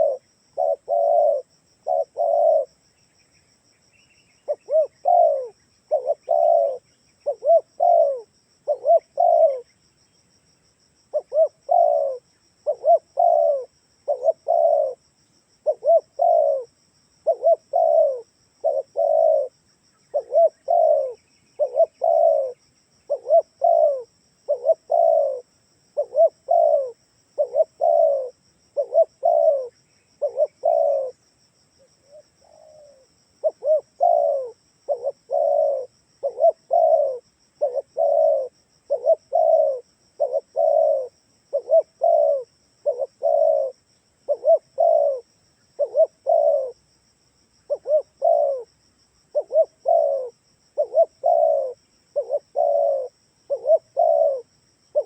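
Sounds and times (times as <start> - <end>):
dove cooing: 0.0 - 2.9, 4.4 - 9.8, 11.1 - 31.2, 31.8 - 46.8, 47.6 - 55.0.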